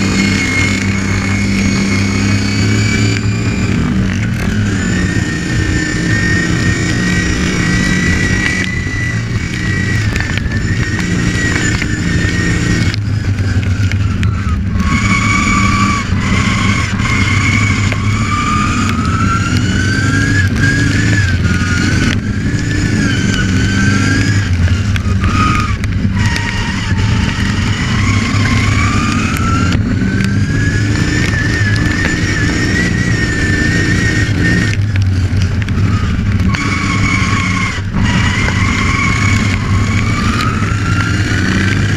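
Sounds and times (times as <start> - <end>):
lawn mower engine whining: 0.0 - 41.9.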